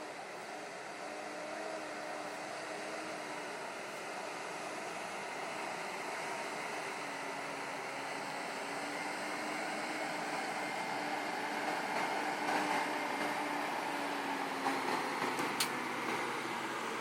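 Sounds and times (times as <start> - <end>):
heavy truck engine running: 0.0 - 17.0
road noise: 0.0 - 17.0.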